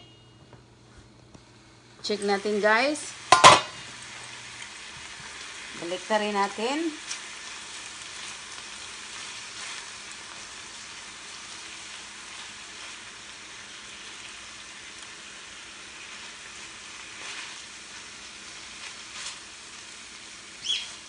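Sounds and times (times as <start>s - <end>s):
chicken sizzling in a pan: 2.0s - 21.0s
utensil stirring in pan: 2.2s - 21.0s.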